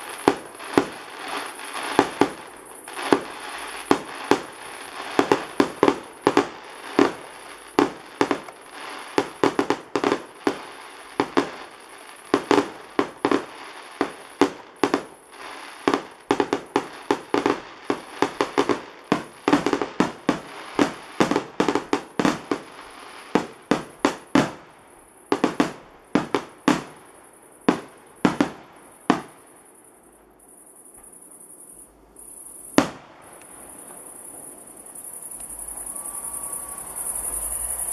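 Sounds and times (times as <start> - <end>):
fireworks bangs: 0.0 - 29.8, 32.2 - 37.9
crickets chirping: 0.0 - 37.9.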